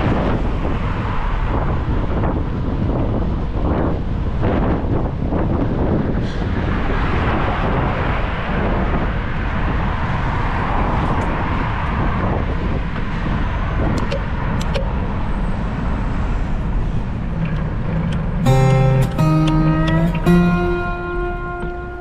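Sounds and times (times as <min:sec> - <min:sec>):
wind rumble on microphone: 0:00.0 - 0:18.5
street traffic: 0:00.0 - 0:22.0.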